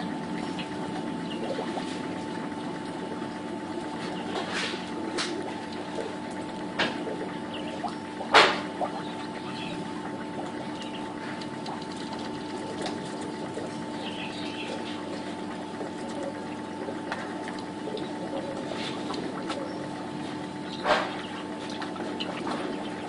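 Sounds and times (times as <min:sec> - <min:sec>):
pond water: 0:00.0 - 0:23.0
steady mechanical hum: 0:00.0 - 0:23.0.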